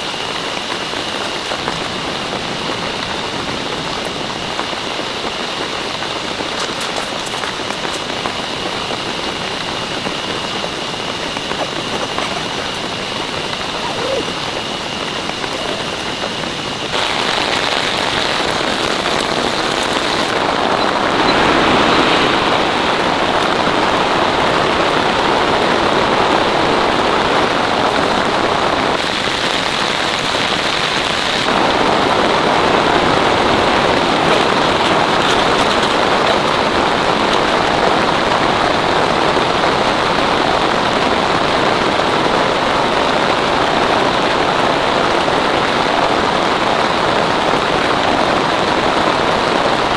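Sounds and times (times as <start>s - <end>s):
heavy rain on a tent: 0.0s - 49.9s.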